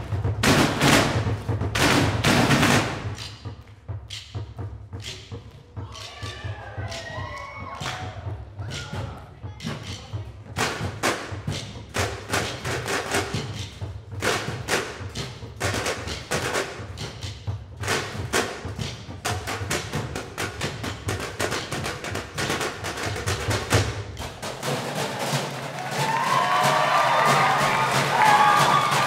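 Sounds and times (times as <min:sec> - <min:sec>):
trash cans played as drums: 0:00.0 - 0:29.0.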